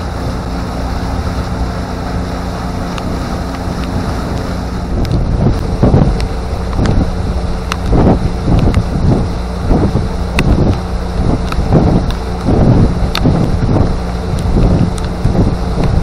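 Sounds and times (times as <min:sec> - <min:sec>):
outboard motor running: 0:00.0 - 0:16.0
water washing past hull: 0:00.0 - 0:16.0
wind buffeting microphone: 0:00.0 - 0:16.0.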